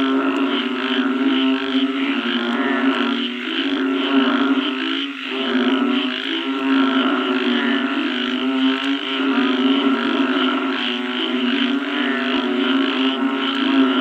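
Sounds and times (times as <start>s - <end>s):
frogs croaking: 0.0s - 14.0s
frogs trilling: 0.0s - 14.0s.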